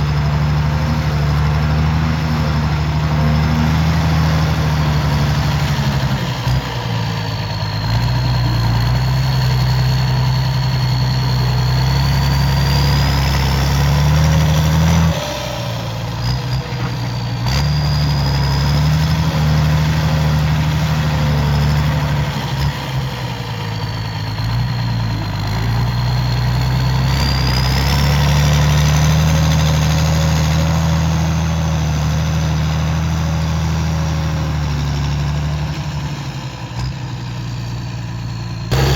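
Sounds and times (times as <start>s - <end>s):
diesel tractor engine rumbling: 0.0s - 38.9s.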